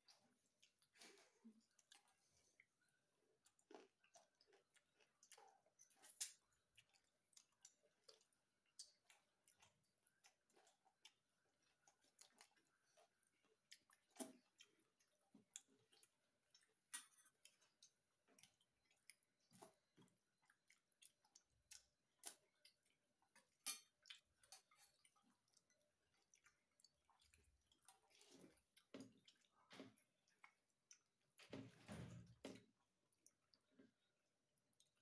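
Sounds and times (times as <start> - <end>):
chewing food: 0.0 - 35.0.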